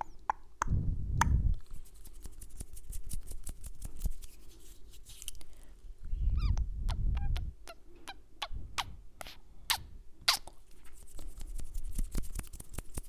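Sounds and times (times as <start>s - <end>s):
kissing smacks and mouth clicks: 0.0s - 4.4s, 6.5s - 13.0s.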